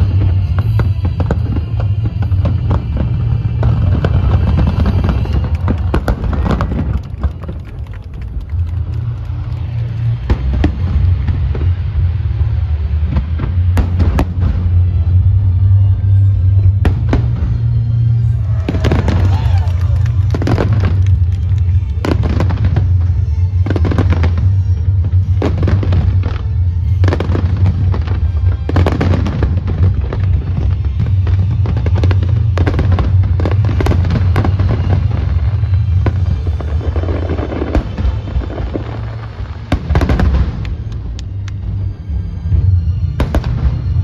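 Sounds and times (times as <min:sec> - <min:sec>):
fireworks bursting with sharp bangs: 0:00.0 - 0:44.0
low rumble: 0:00.0 - 0:44.0.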